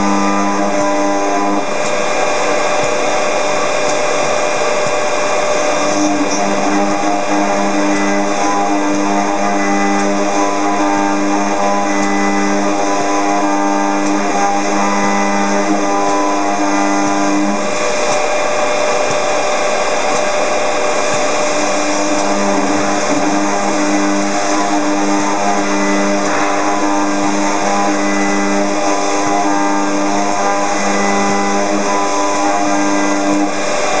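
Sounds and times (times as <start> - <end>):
milling spindle cutting metal: 0.0 - 34.0.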